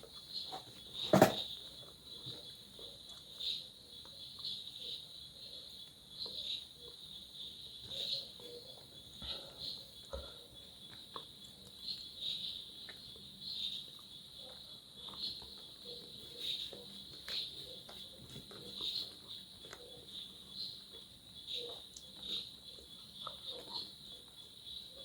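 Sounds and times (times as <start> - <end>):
insects chirping trill: 0.0 - 25.0.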